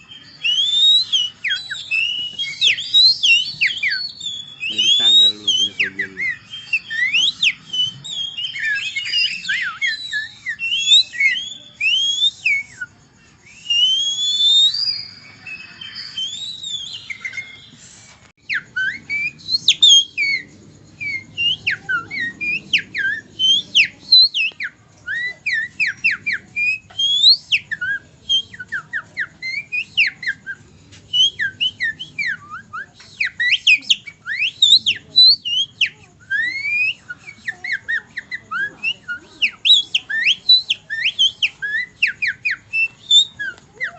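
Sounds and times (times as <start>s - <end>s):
man whistling birdsong: 0.0s - 17.8s, 18.4s - 43.9s.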